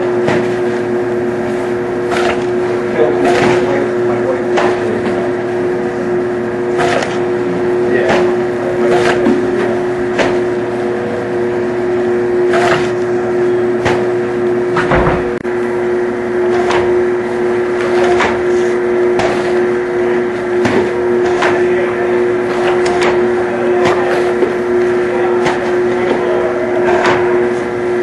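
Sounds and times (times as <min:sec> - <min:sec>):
label applicator machine humming: 0:00.0 - 0:28.0.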